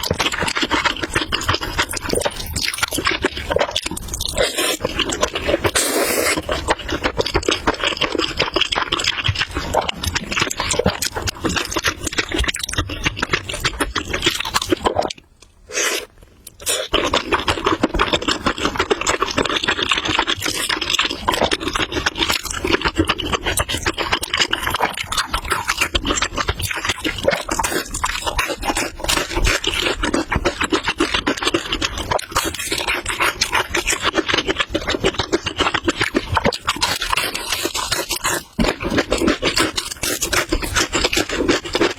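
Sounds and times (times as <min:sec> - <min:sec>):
wet chewing of noodles: 0:00.0 - 0:41.9.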